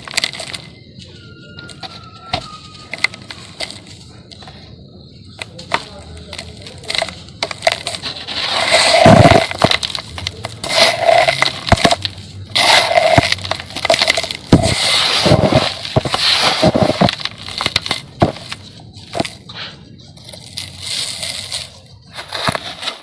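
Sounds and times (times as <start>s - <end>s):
cement chunks crumbling: 0.0s - 23.0s.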